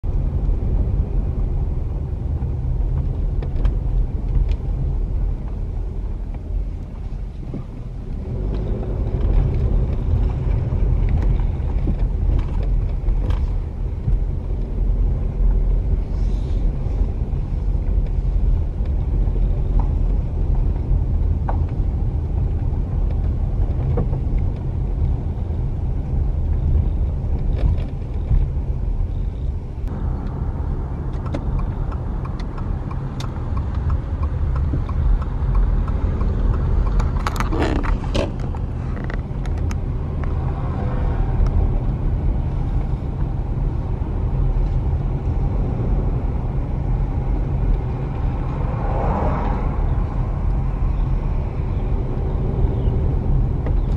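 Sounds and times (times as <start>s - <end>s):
car road and engine rumble: 0.0s - 53.9s.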